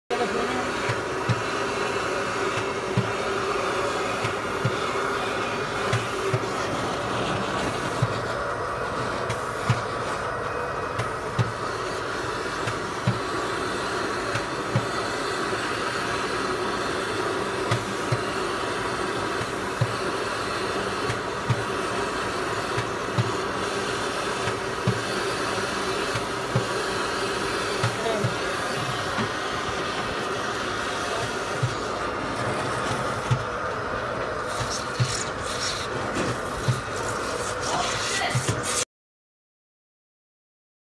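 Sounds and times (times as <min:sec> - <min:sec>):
vacuum suction whooshing hum: 0:00.1 - 0:38.8.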